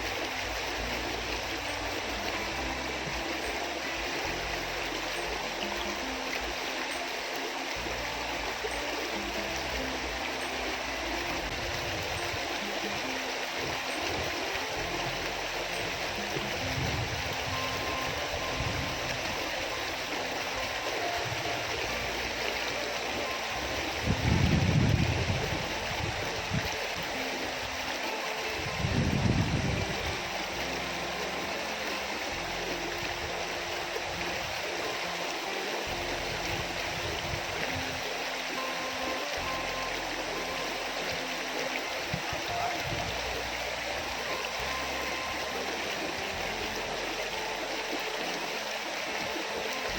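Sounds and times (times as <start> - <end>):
background music: 0.0 - 49.9
river flowing: 0.0 - 49.9.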